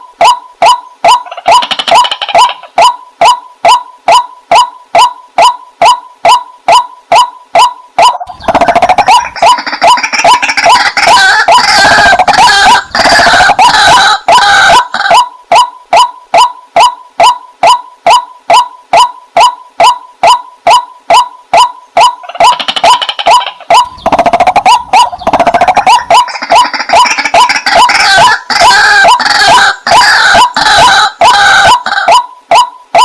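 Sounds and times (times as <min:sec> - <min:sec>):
waterhen calling: 0:00.0 - 0:33.0.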